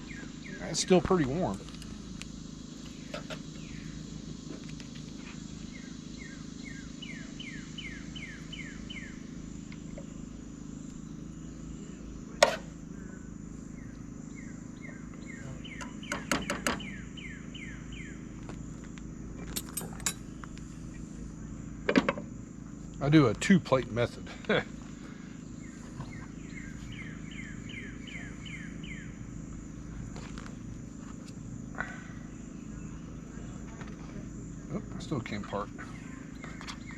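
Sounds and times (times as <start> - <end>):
high insect drone: 0.0 - 36.9
low hum: 0.0 - 36.9.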